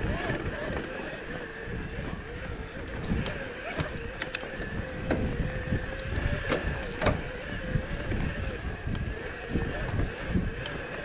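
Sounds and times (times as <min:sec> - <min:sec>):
bike clicks and rattles: 0:00.0 - 0:11.0
bike tyres rolling hum: 0:00.0 - 0:11.0
wind: 0:00.0 - 0:11.0.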